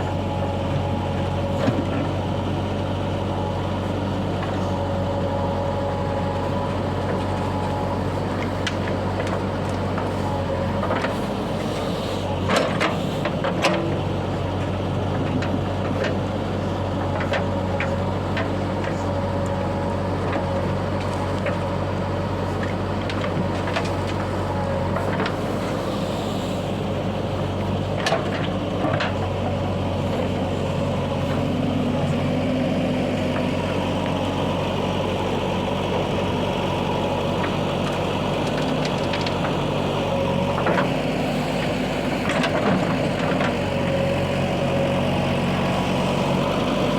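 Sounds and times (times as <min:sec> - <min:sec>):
heavy diesel engines running: 0:00.0 - 0:46.9.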